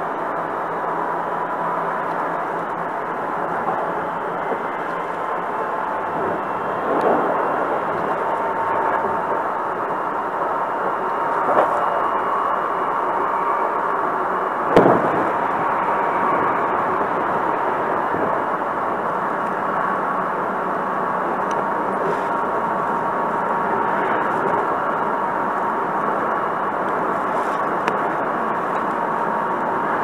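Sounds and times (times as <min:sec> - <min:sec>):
faint steady whine: 0:00.0 - 0:30.0
train interior rumble: 0:00.0 - 0:30.0.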